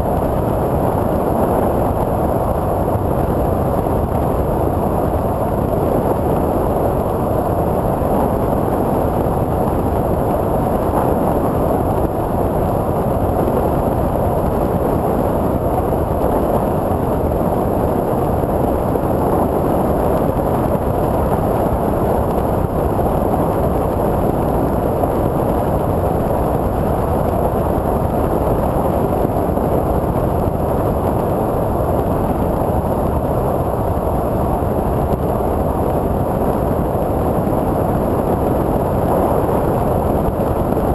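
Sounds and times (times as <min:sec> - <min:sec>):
wind and propeller noise: 0:00.0 - 0:40.9.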